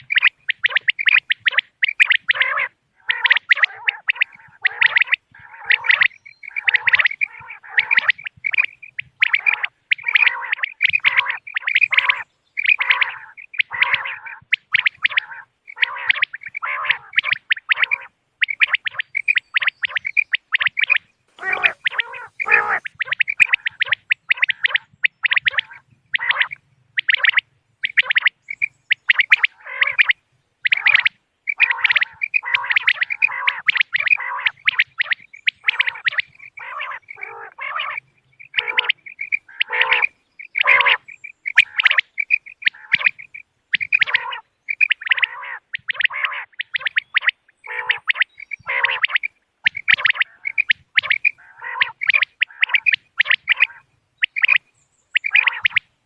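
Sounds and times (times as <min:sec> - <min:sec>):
quail calling: 0:00.0 - 0:56.0.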